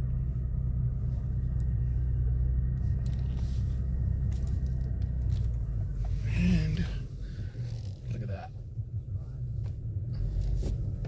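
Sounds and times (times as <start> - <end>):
truck engine rumble: 0.0 - 11.0.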